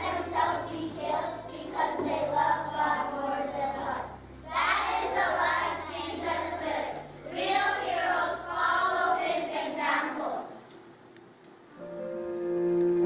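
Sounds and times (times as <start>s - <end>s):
children singing in unison: 0.0s - 10.5s.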